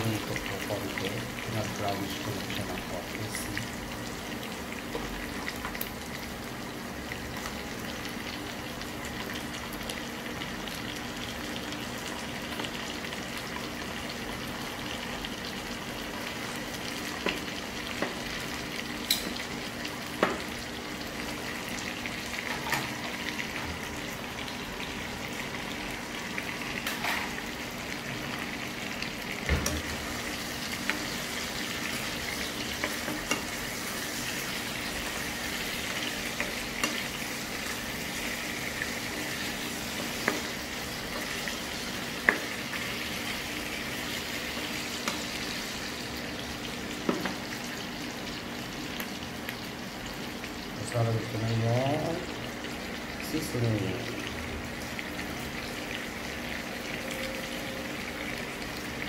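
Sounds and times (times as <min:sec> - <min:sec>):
food sizzling in a wok: 0:00.0 - 0:59.0.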